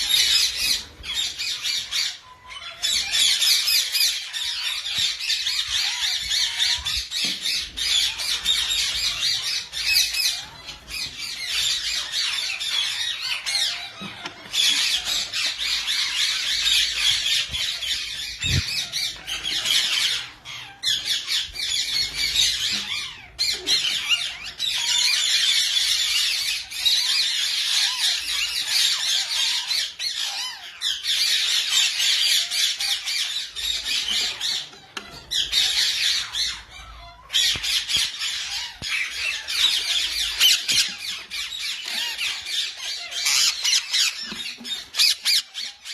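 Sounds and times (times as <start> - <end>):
parakeets squawking: 0.0 - 45.9.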